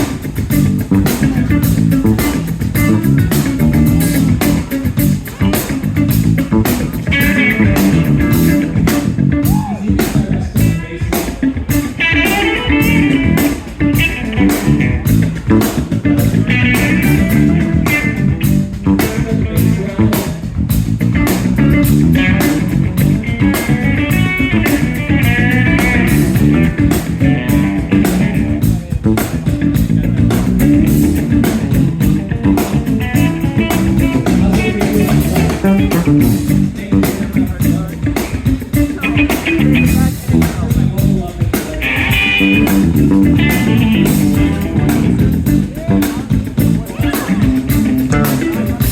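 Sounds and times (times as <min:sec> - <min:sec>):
drum kit beat: 0:00.0 - 0:48.9
electric bass: 0:00.0 - 0:48.9
electric guitars: 0:00.0 - 0:48.9.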